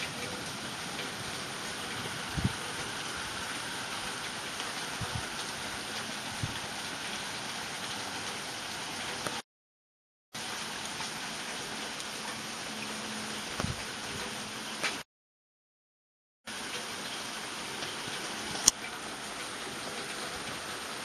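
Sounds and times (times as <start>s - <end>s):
heavy rain pouring: 0.0s - 9.4s, 10.4s - 15.0s, 16.5s - 21.0s.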